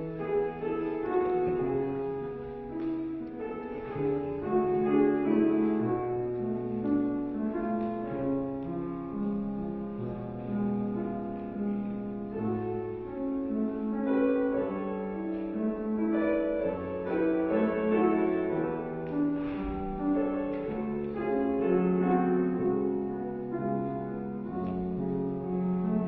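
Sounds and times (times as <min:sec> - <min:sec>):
slow classical piano: 0:00.0 - 0:26.0.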